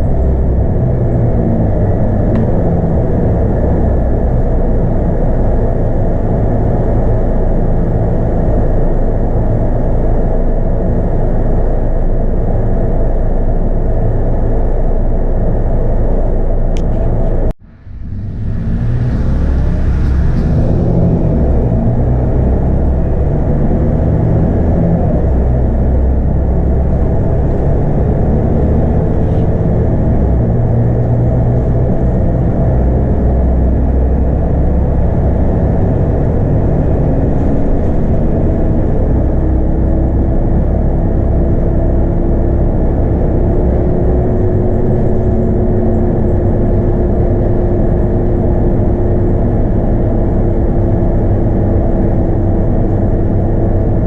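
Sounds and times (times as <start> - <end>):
bus engine drone: 0.0 - 54.0
gearbox whine rising: 0.0 - 54.0.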